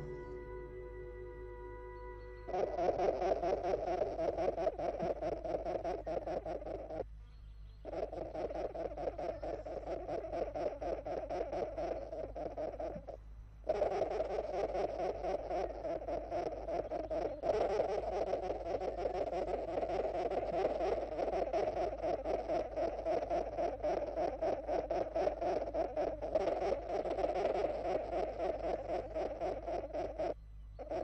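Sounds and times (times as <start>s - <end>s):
rapid chattering animal calls: 2.4s - 7.1s, 7.7s - 31.0s.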